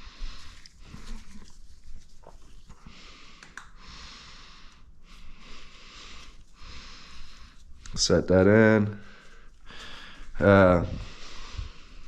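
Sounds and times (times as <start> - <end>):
person breathing close up: 0.0 - 1.6, 2.8 - 8.0, 9.0 - 12.0.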